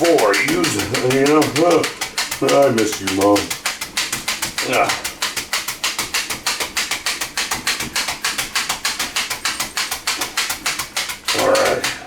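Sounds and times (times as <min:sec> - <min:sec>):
meat tenderizer clicking into meat: 0:00.0 - 0:12.0.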